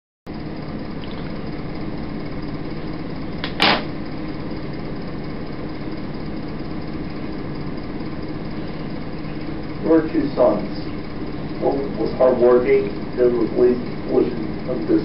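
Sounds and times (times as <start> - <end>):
videotape hum and hiss: 0.4 - 15.0.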